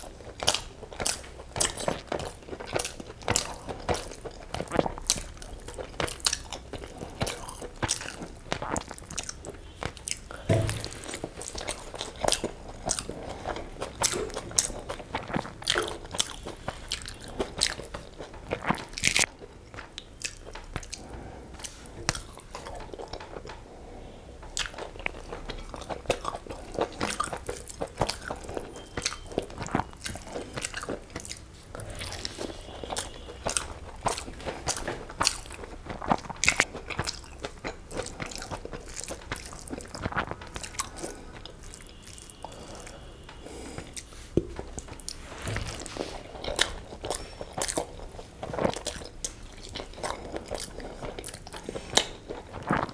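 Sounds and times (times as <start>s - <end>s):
chewing with wet mouth clicks: 0.0s - 23.7s, 24.4s - 45.2s, 46.0s - 52.9s.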